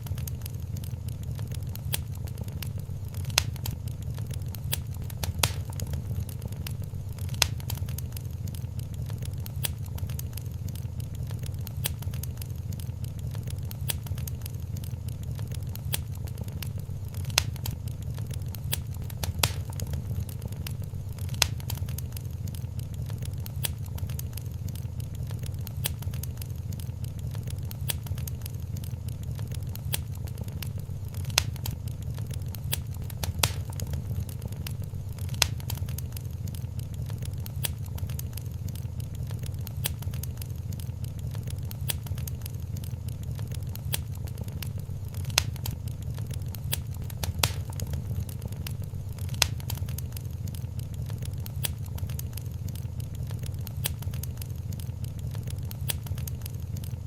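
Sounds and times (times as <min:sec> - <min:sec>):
fire pops and snaps: 0:00.0 - 0:57.0
wood fire crackling: 0:00.0 - 0:57.0.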